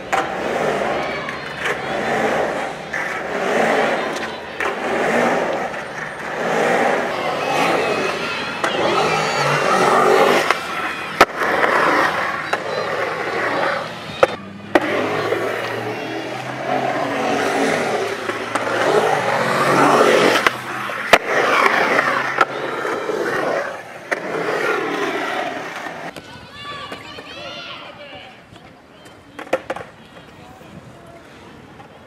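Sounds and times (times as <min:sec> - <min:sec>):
skateboard clacks: 0:00.0 - 0:32.0
skateboard wheels rolling on concrete: 0:00.0 - 0:32.0.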